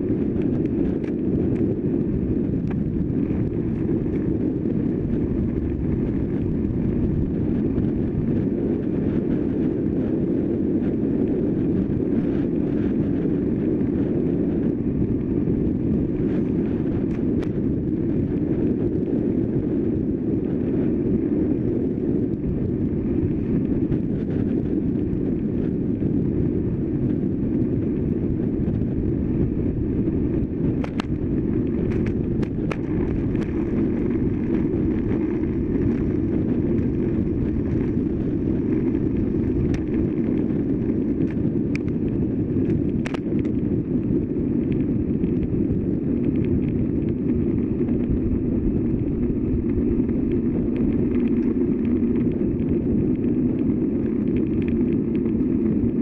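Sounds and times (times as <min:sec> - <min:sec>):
tyre noise on asphalt: 0:00.0 - 0:56.0
wind on microphone: 0:00.0 - 0:56.0.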